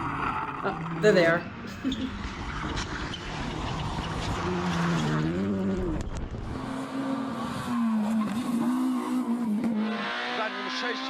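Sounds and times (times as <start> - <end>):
rally car engine at speed: 0.0 - 11.0.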